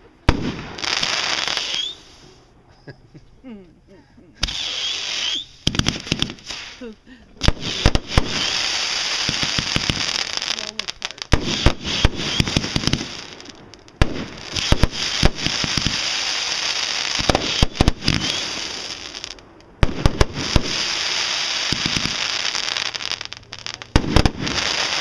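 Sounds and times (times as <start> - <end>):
fireworks bangs: 0.0 - 2.8, 4.4 - 25.0
fireworks crackling: 0.0 - 2.9, 4.4 - 25.0.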